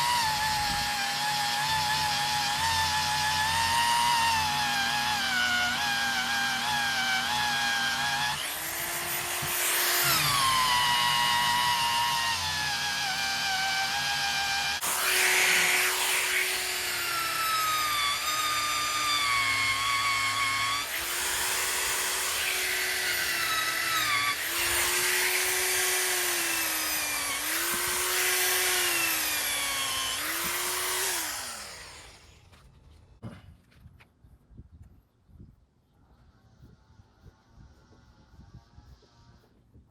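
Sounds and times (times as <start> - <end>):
drill spinning eraser wheel: 0.0 - 32.5.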